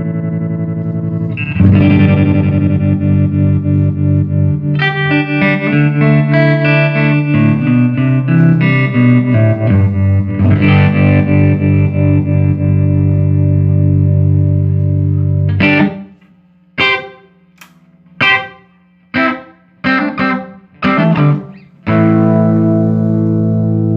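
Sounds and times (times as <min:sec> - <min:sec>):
distorted electric guitar chords: 0:00.0 - 0:23.9.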